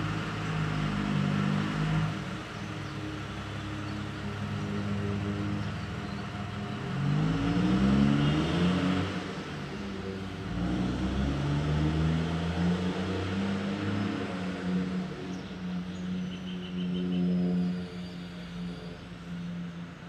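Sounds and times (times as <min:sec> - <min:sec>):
engine noise rising and falling: 0:00.0 - 0:16.2.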